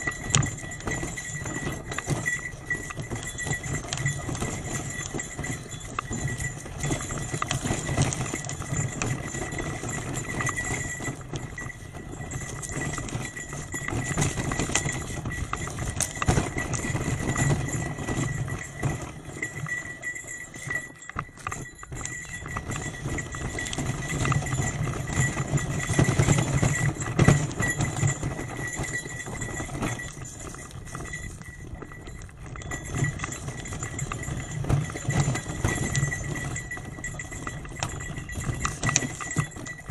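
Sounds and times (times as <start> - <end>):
bicycle rattling on rough road: 0.0 - 39.9
wind: 0.0 - 39.9.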